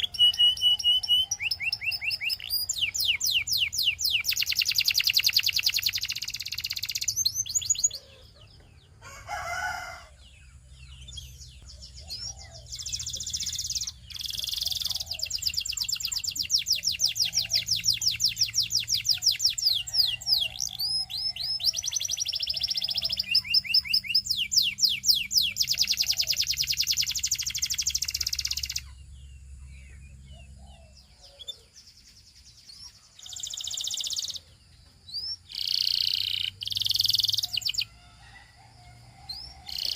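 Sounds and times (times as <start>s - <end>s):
canary singing rapid trills: 0.0s - 38.4s, 39.2s - 39.9s.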